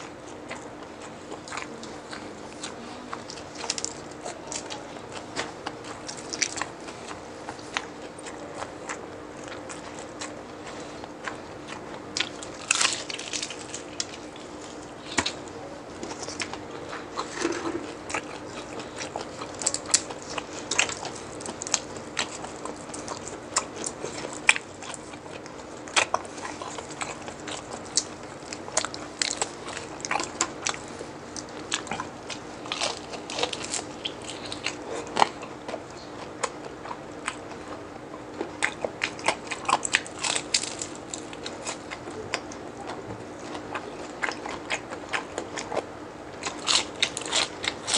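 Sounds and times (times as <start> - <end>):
crunching and chewing crispy food: 0.0 - 47.9.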